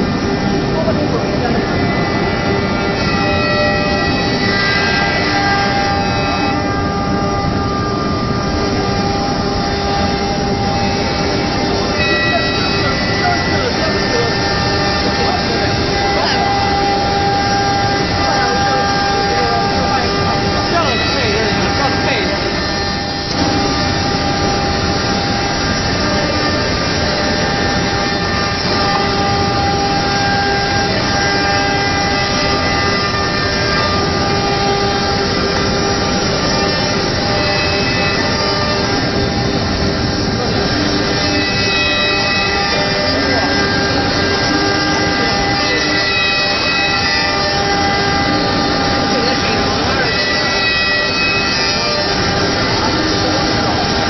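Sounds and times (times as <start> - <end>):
router machine whining: 0.0 - 54.0.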